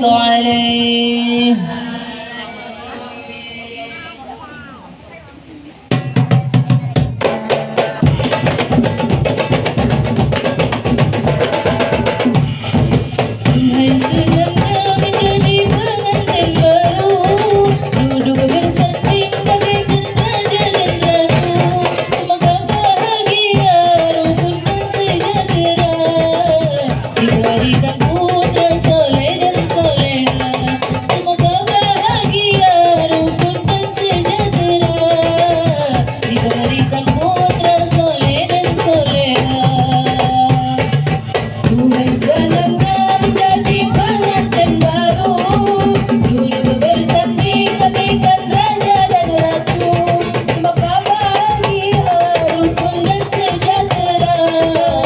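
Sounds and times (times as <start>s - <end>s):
voices singing devotional melody: 0.0s - 55.0s
hand drum rhythm: 5.8s - 55.0s.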